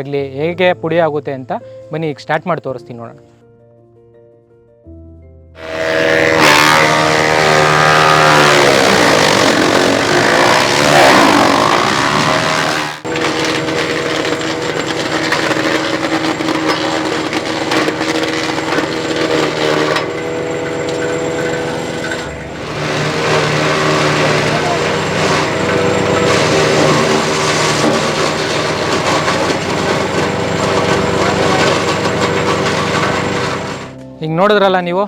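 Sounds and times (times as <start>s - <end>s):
chipper shredding fronds: 5.6s - 34.0s
wood chipper engine running: 5.6s - 34.0s.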